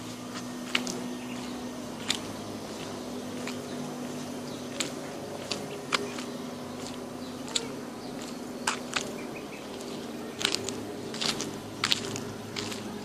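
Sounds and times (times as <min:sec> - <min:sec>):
footsteps on gravel: 0:00.0 - 0:13.0
heeled boot footsteps on asphalt: 0:00.0 - 0:13.0
steady low hum: 0:00.0 - 0:13.0.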